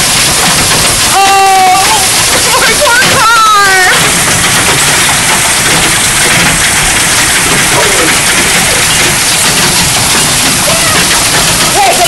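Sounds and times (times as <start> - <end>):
heavy hail pelting down: 0.0 - 12.0.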